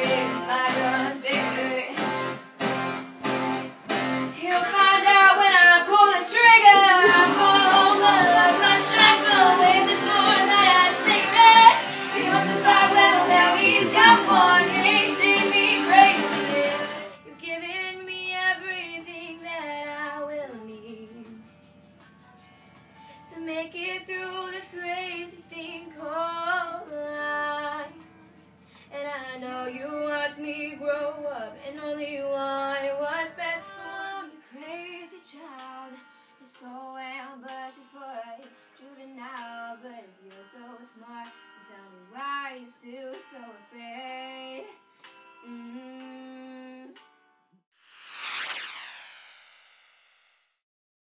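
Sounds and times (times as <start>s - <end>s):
girl singing: 0.0s - 2.0s, 4.4s - 21.4s, 23.3s - 28.0s, 28.9s - 44.8s, 45.4s - 47.0s.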